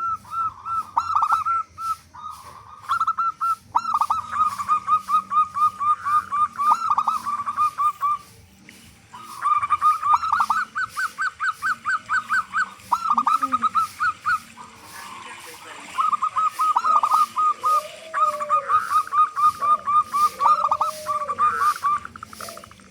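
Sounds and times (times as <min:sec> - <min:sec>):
dove calling in short notes: 0:00.0 - 0:08.4, 0:09.1 - 0:22.8.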